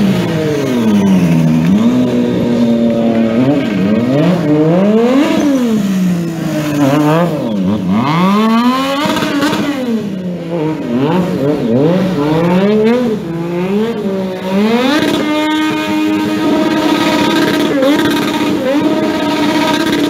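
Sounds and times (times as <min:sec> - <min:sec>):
motorcycle engine revving: 0:00.0 - 0:20.0
rear tyre spinning: 0:00.0 - 0:20.0.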